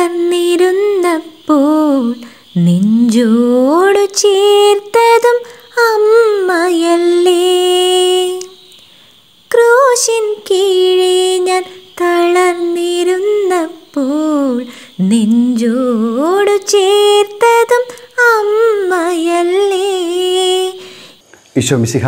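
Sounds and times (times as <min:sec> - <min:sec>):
woman singing unaccompanied: 0:00.0 - 0:21.2.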